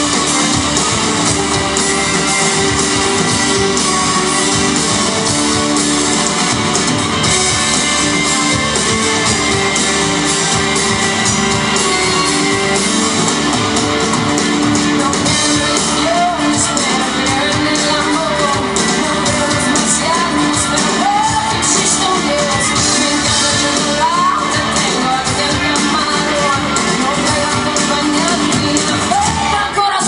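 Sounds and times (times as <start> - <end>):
acoustic guitar: 0.0 - 30.0
drum kit: 0.0 - 30.0
electric guitar: 0.0 - 30.0.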